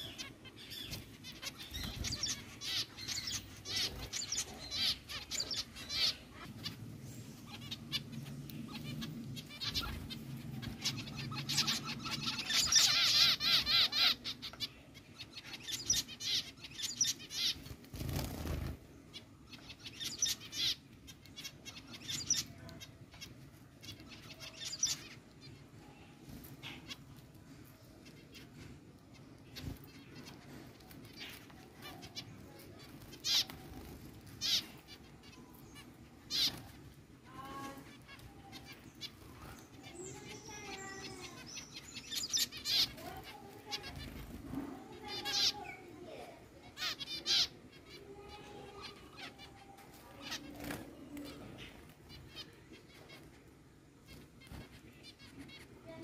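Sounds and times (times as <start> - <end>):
zebra finches calling: 0.0 - 56.0.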